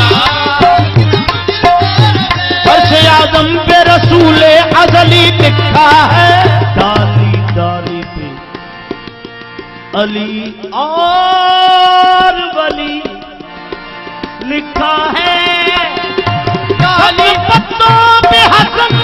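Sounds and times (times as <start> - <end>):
harmonium: 0.0 - 19.0
tabla strokes: 0.0 - 19.0.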